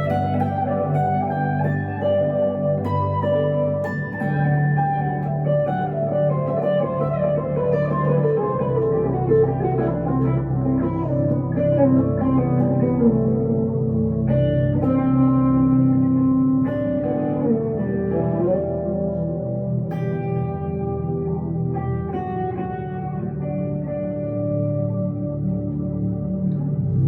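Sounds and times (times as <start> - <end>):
clean electric guitar melody: 0.0 - 27.0.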